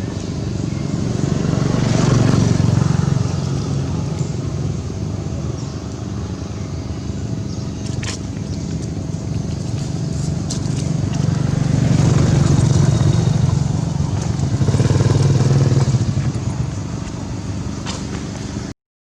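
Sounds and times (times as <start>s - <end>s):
vehicle engine passing: 0.0s - 18.7s.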